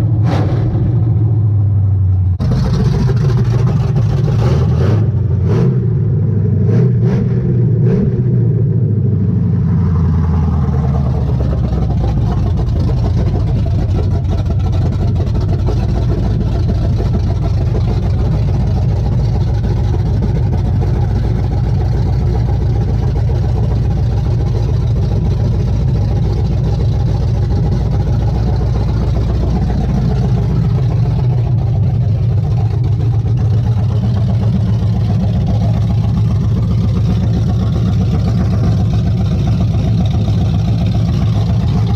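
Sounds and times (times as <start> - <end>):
engine idling: 0.0 - 6.8, 8.4 - 41.9.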